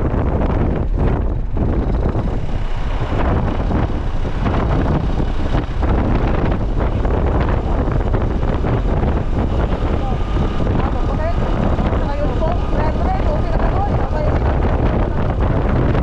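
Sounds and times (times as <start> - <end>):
motorcycle running: 0.0 - 16.0
wind buffeting microphone: 0.0 - 16.0.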